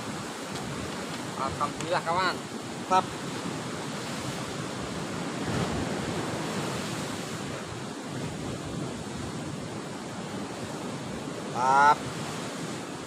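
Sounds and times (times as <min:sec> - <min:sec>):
sea surf breaking: 0:00.0 - 0:13.0
wind buffeting microphone: 0:00.0 - 0:13.0.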